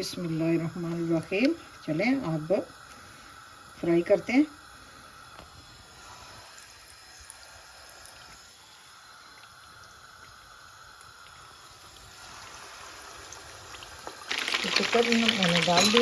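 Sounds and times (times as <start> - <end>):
frying oil hissing: 0.0 - 16.0.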